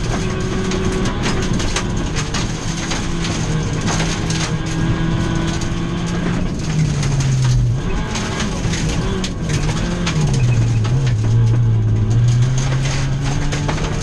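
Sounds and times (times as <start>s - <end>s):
gravel knocking against car: 0.0s - 14.0s
rally car engine running hard: 0.0s - 14.0s.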